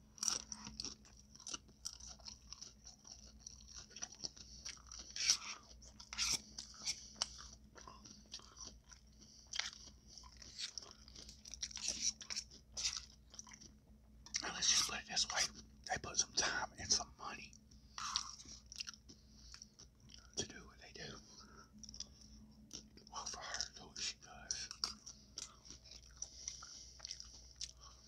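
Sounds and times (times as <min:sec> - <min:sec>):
chewing crunches: 0:00.0 - 0:16.6, 0:17.9 - 0:20.4, 0:21.3 - 0:28.0.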